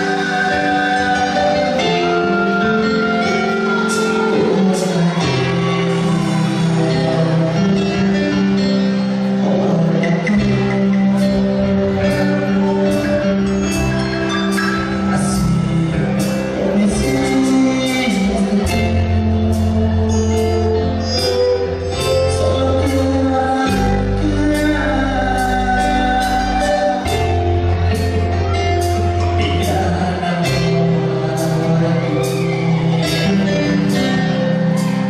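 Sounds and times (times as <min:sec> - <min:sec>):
live dance band: 0:00.0 - 0:35.0
man singing: 0:00.0 - 0:35.0.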